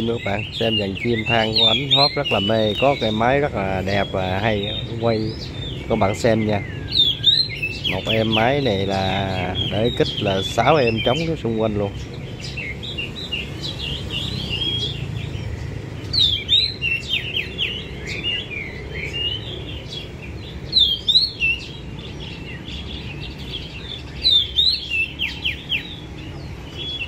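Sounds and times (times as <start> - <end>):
songbirds singing and chirping: 0.0 - 27.0.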